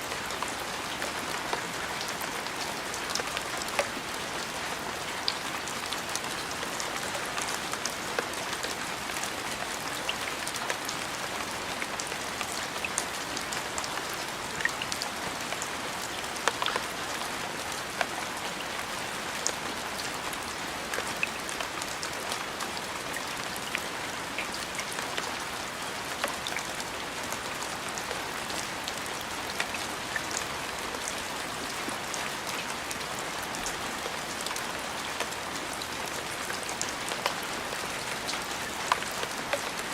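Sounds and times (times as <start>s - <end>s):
rain hissing on a surface: 0.0s - 39.9s.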